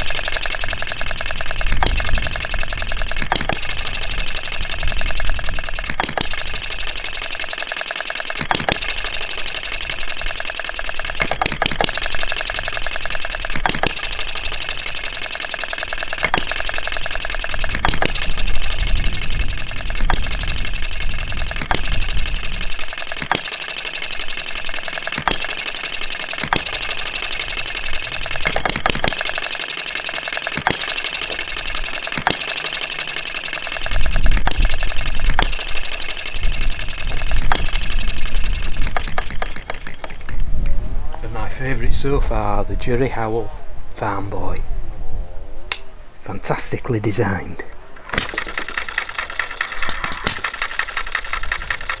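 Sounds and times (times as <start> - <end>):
model engine clattering: 0.0 - 40.4, 48.0 - 52.0.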